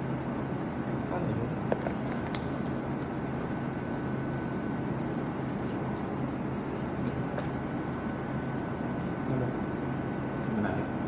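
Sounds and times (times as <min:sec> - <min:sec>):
restaurant dining room hum: 0:00.0 - 0:11.0.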